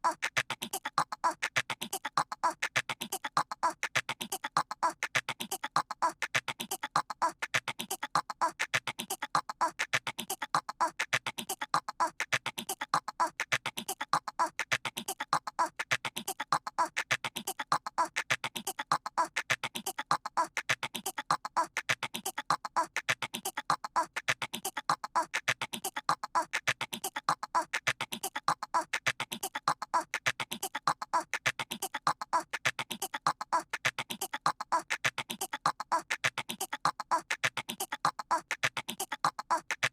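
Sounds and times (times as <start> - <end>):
cartoon voice chattering like squirrel: 0.0 - 39.9.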